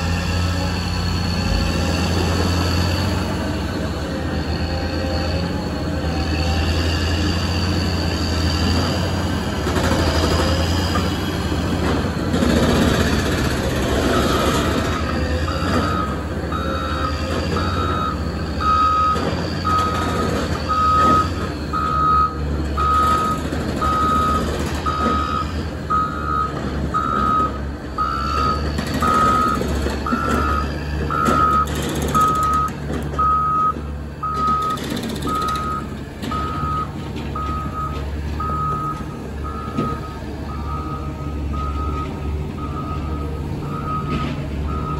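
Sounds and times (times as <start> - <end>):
diesel engine rumble: 0.0 - 44.9.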